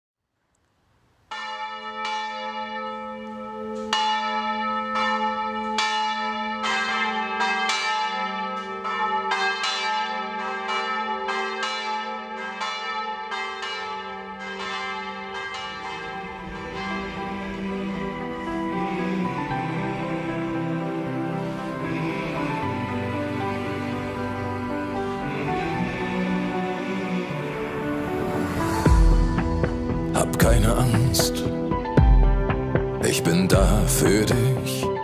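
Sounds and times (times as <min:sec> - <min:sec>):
church bells ringing: 0:01.2 - 0:35.0.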